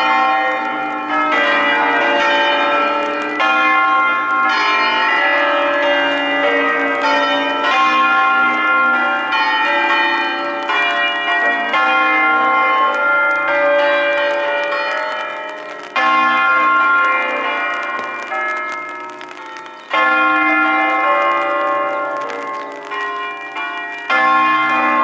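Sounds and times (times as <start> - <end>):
church bells pealing: 0.0 - 25.0.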